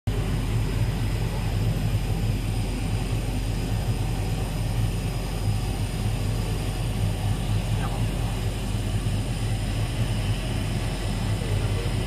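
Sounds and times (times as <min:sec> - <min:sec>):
laser cutter machine hum: 0:00.1 - 0:12.0.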